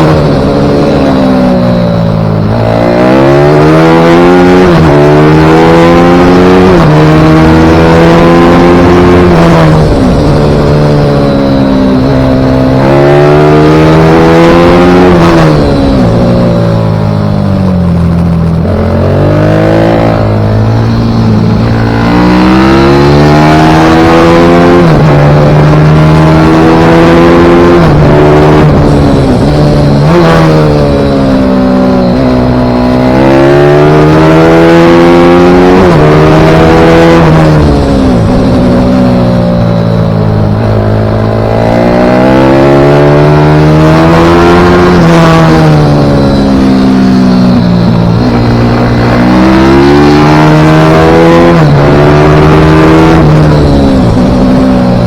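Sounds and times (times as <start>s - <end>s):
pit bike engine racing: 0.0s - 55.0s.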